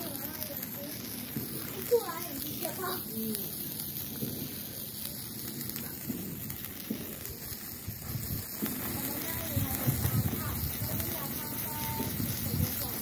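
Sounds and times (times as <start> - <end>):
firework sparks hissing: 0.0 - 13.0.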